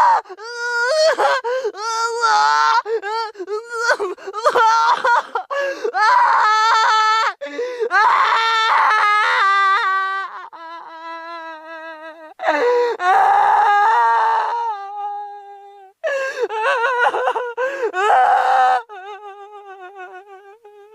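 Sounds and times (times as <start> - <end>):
person wailing sobs: 0.0 - 20.9.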